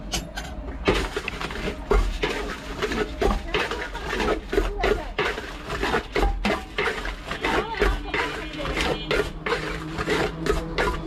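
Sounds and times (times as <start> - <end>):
metal spoon scraping steel bowl: 1.0 - 11.0.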